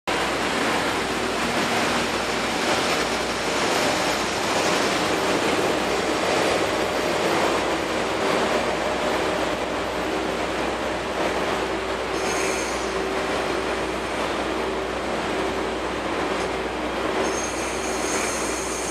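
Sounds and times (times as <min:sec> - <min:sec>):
wheel-on-rail noise: 0:00.1 - 0:18.9.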